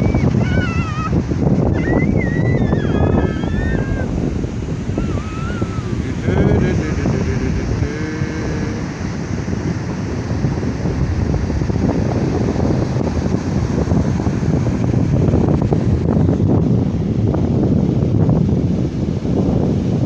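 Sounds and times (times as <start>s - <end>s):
ocean surf breaking: 0.0s - 16.4s
wind buffeting microphone: 0.0s - 20.0s.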